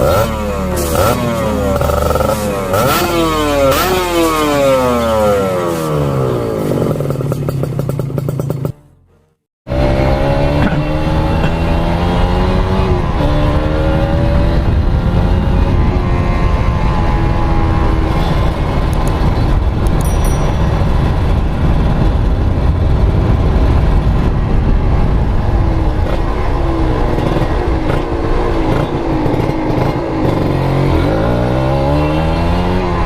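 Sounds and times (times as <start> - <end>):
two-stroke motorcycle engine revving: 0.0 - 8.9, 9.7 - 33.0.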